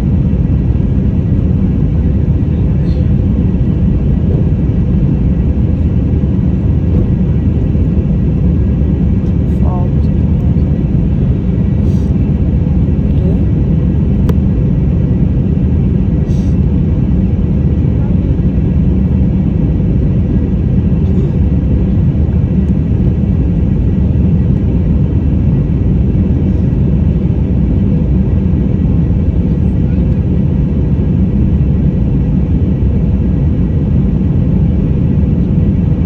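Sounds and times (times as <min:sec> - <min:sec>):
jet engines rumbling in cabin: 0:00.0 - 0:36.0.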